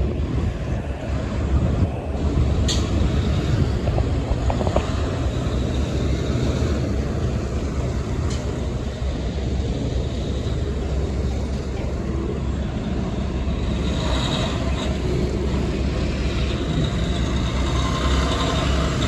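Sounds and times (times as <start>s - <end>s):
vehicle road noise rumble: 0.0s - 19.0s.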